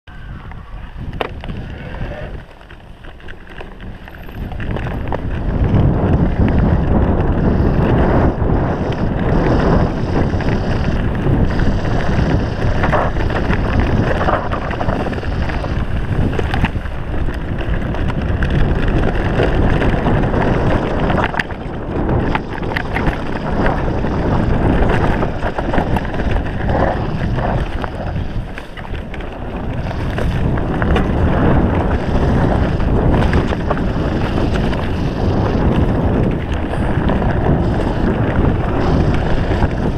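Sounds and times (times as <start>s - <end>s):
bike tyre noise: 0.1s - 39.9s
wind buffeting microphone: 0.1s - 39.9s
bike knocks and rattles: 1.0s - 39.9s.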